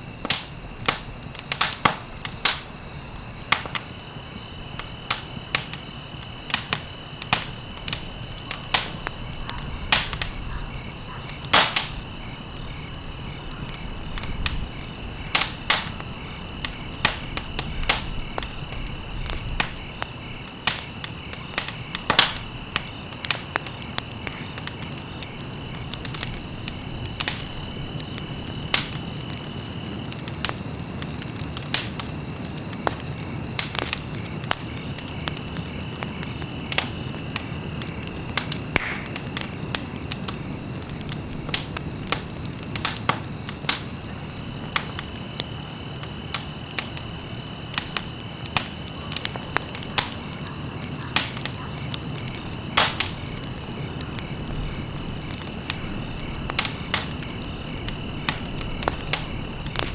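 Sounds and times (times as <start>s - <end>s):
low rustle of flames: 0.0s - 59.9s
wood fire crackling and popping: 0.0s - 59.9s.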